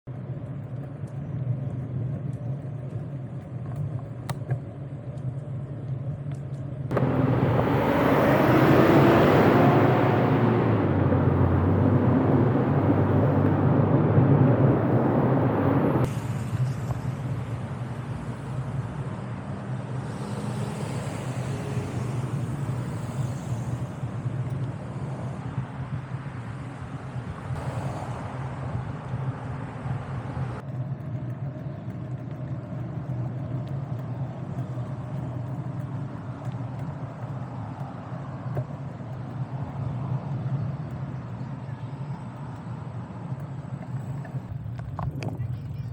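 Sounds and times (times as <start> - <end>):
passing road traffic: 6.9 - 45.9.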